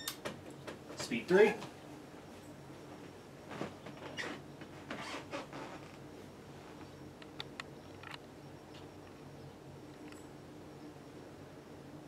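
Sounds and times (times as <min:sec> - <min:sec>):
ceiling fan motor humming: 0:00.0 - 0:12.0.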